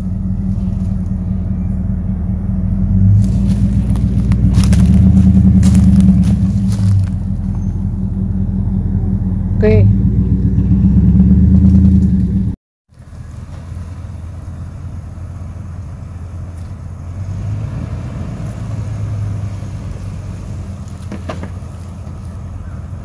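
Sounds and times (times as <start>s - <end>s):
pickup engine rumbling: 0.0s - 23.0s.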